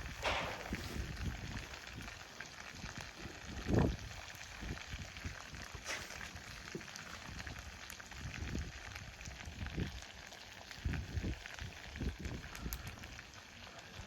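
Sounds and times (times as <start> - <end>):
wood fire hissing and popping: 0.0 - 14.0.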